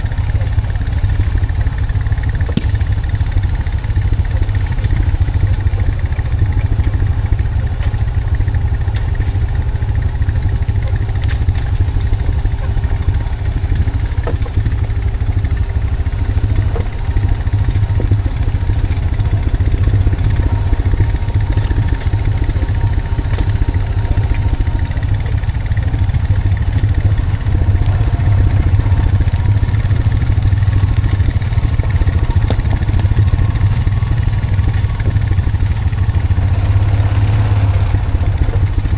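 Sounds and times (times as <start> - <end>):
atv engine running: 0.0 - 38.9
light clicks and clatter: 0.0 - 38.9.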